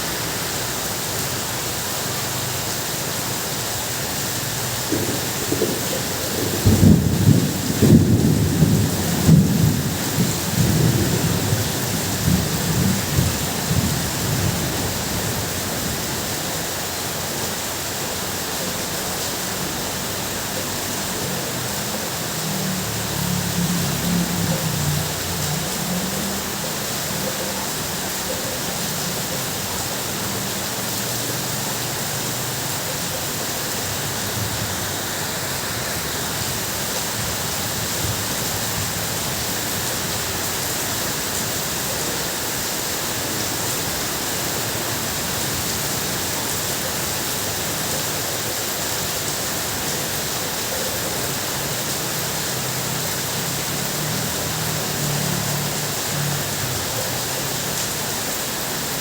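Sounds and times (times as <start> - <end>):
heavy rain on a tin roof: 0.0 - 59.0.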